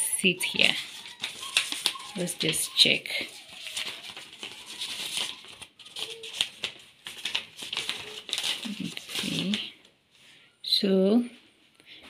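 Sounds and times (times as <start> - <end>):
paper receipt rustling: 0.2 - 9.9.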